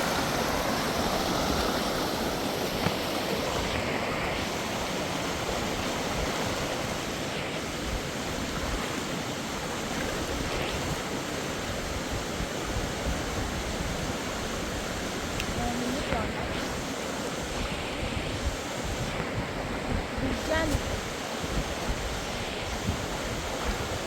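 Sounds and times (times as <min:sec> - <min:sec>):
waterfall roaring: 0:00.0 - 0:24.0
wind on microphone: 0:00.0 - 0:24.0.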